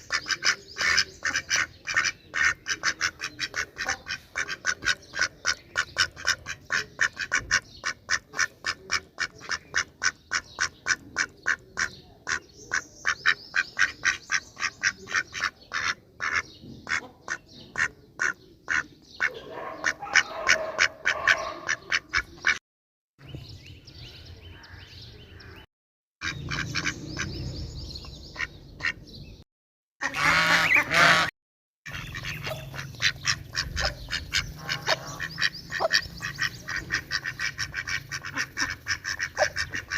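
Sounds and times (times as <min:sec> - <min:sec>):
ducks quacking: 0:00.0 - 0:22.6, 0:26.2 - 0:27.4, 0:28.3 - 0:29.2, 0:30.0 - 0:31.3, 0:31.9 - 0:39.9.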